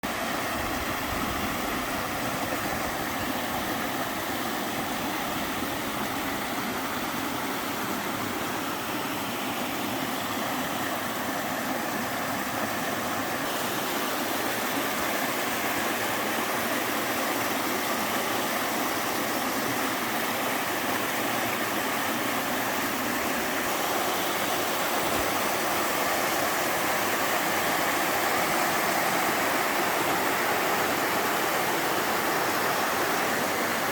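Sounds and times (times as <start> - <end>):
waterfall rushing over rocks: 0.0 - 33.9.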